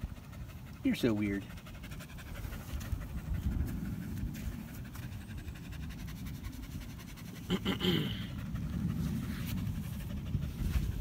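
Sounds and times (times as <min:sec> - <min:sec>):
dog panting: 0:00.0 - 0:11.0
low steady rumble: 0:00.0 - 0:11.0.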